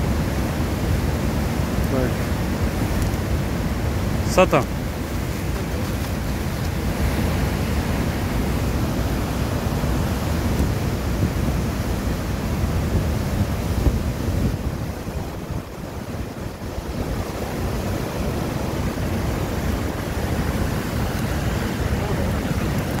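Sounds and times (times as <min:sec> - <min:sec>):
rushing river water: 0:00.0 - 0:23.0
wind buffeting microphone: 0:00.0 - 0:23.0.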